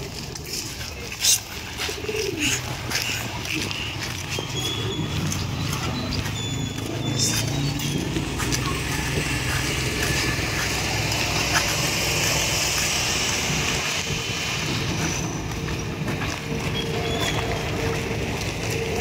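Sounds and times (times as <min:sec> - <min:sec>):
low engine-like rumble: 0:00.0 - 0:19.0.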